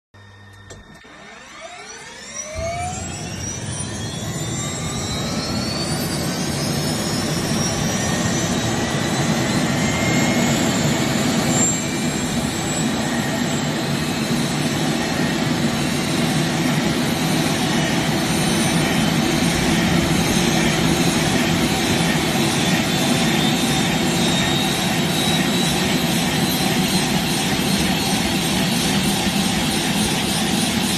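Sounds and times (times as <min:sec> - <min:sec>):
helicopter engine starting up: 0:00.2 - 0:30.9.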